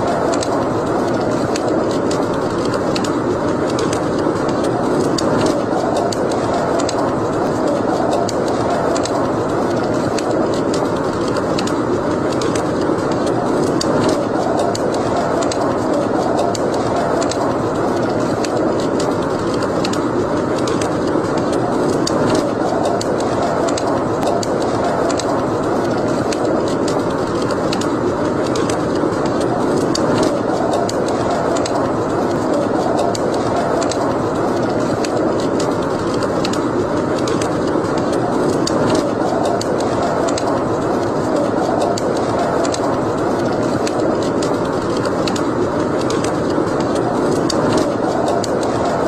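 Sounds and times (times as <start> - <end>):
fire crackles and pops: 0.0 - 49.0
wood fire rushing: 0.0 - 49.0.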